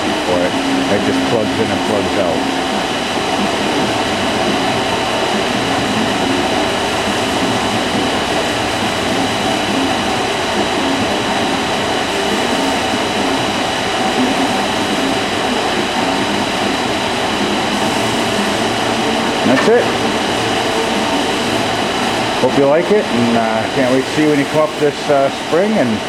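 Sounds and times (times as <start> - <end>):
machine running with high whine: 0.0 - 26.0.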